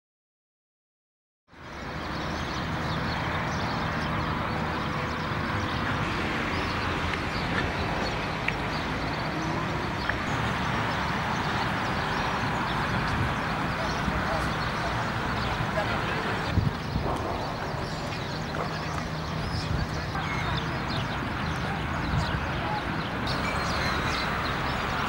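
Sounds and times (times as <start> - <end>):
outdoor background noise: 1.5 - 25.0.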